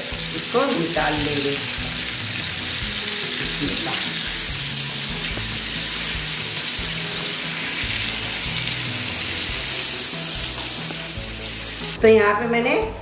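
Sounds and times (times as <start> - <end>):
chicken sizzling in hot oil: 0.0 - 12.0
background music with bass line: 0.0 - 13.0.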